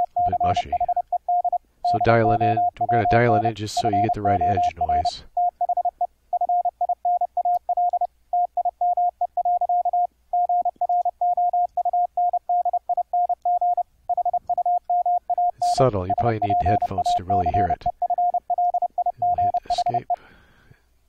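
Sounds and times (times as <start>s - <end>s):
morse code tone: 0.0s - 20.2s.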